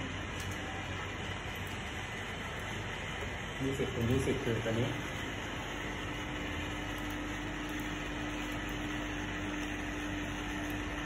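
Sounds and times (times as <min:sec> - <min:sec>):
fan-like equipment hum: 0:00.0 - 0:11.0.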